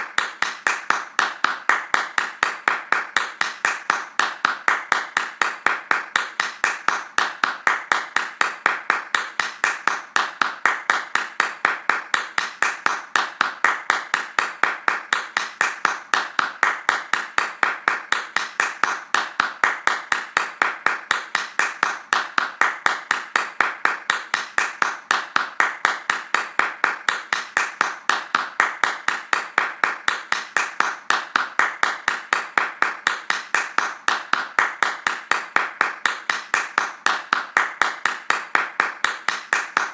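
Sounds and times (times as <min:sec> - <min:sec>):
fast hand clapping: 0:00.0 - 0:39.9.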